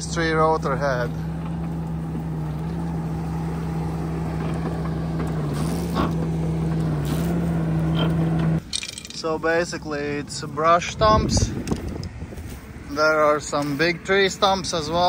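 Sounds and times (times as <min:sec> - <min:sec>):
track loader mulcher drone: 0:00.0 - 0:15.0.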